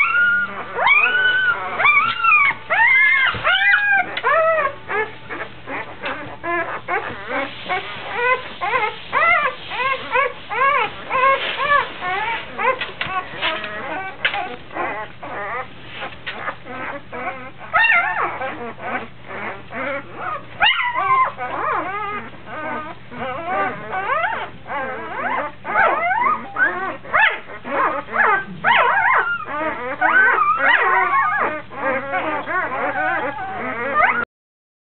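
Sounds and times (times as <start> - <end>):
puppies whimpering and squealing: 0.0 - 34.3.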